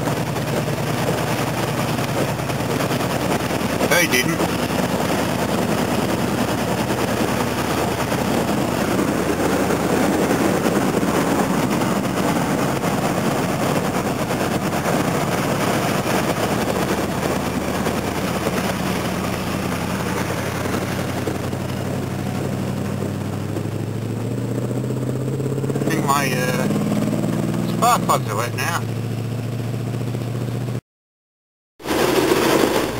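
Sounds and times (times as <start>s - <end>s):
water spraying around car: 0.0s - 29.8s
car engine: 0.0s - 30.8s, 31.8s - 32.9s.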